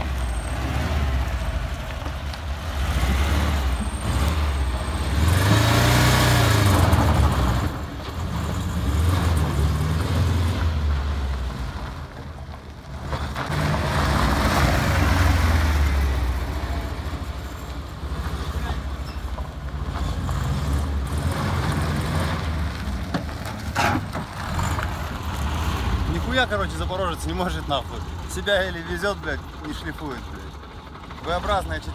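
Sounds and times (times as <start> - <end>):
car engine revving: 0.0 - 12.0, 12.9 - 19.0, 19.7 - 29.6.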